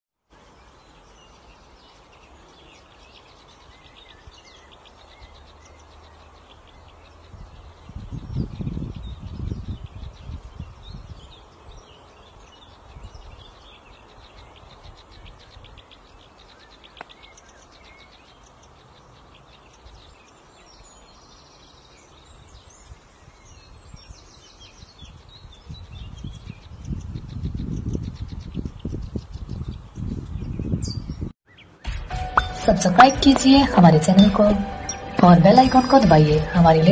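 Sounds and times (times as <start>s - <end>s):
warbler singing chattering song: 0.3s - 36.9s.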